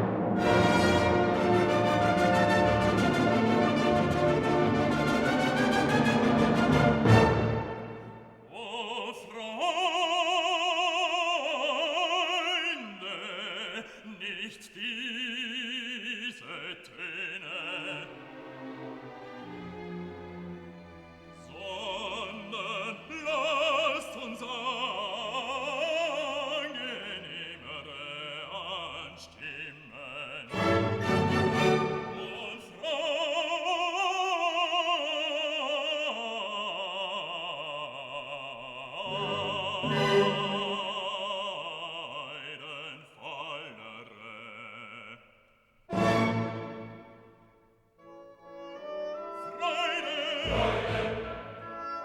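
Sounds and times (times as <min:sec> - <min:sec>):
operatic singing with orchestra: 0:00.0 - 0:45.2, 0:45.9 - 0:47.4, 0:48.0 - 0:52.0.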